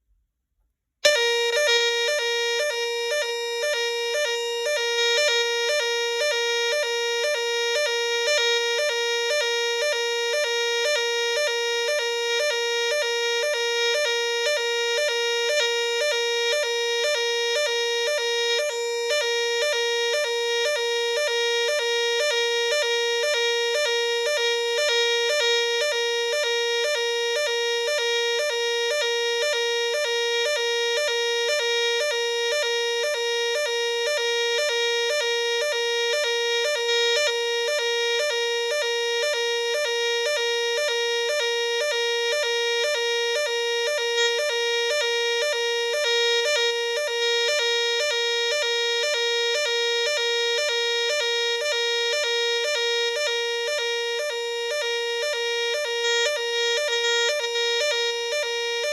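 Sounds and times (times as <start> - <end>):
electronic two-tone fire alarm: 1.1 - 58.9.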